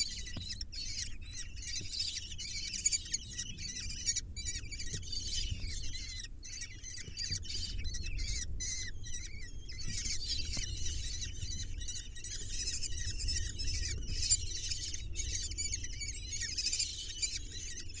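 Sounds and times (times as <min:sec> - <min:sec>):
low steady rumble: 0:00.0 - 0:18.0
nestlings chirping: 0:00.0 - 0:18.0.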